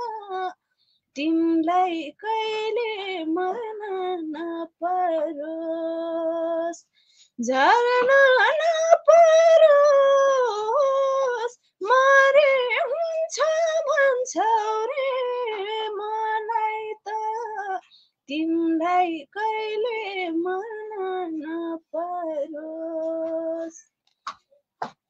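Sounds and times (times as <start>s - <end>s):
woman singing unaccompanied: 0.0s - 0.6s, 1.2s - 6.8s, 7.4s - 23.8s.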